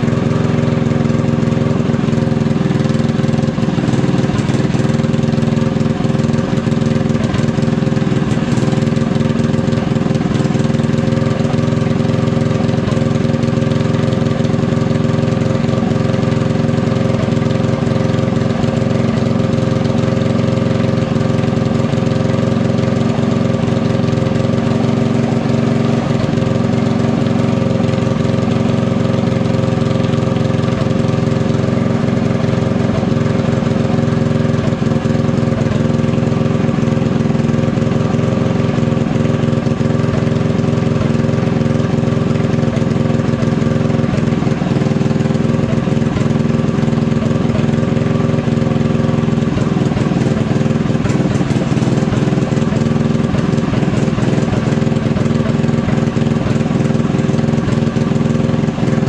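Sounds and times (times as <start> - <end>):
small petrol engine idling: 0.0 - 59.0.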